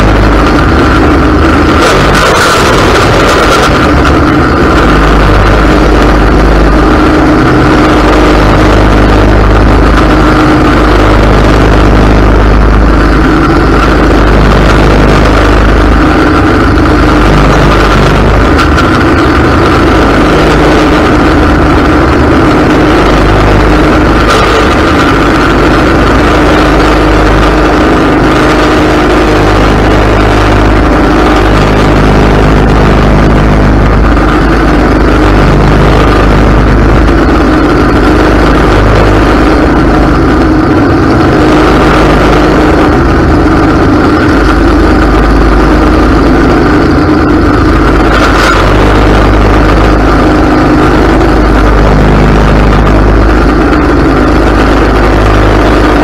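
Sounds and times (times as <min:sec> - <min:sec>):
riding mower engine running: 0:00.0 - 0:56.0.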